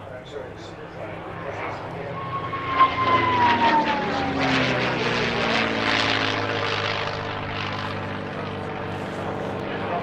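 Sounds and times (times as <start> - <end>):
propeller aircraft flying past: 0.0 - 10.0.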